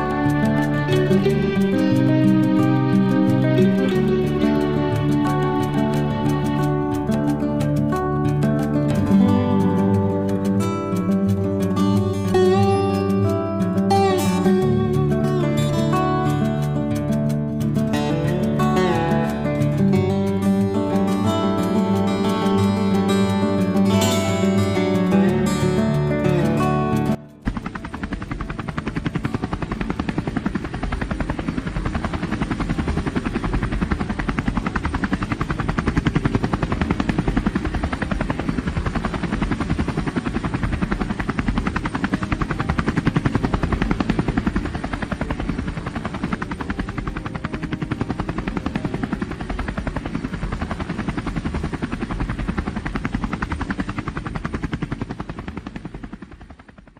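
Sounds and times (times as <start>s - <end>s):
helicopter rotor chopping: 0.0s - 56.9s.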